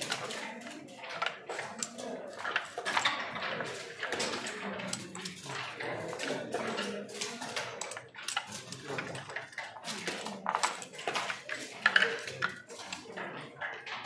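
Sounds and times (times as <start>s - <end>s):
backgammon checkers clicking: 0.0s - 14.0s.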